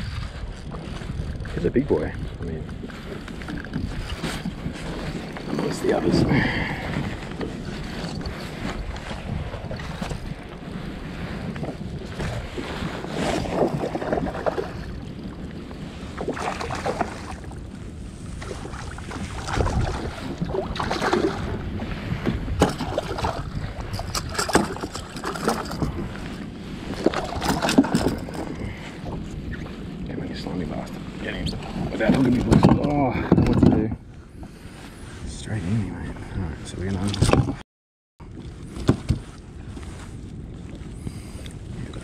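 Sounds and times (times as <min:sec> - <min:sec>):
water lapping and splashing: 0:00.0 - 0:37.6, 0:38.2 - 0:42.0
wind buffeting microphone: 0:00.0 - 0:37.6, 0:38.2 - 0:42.0.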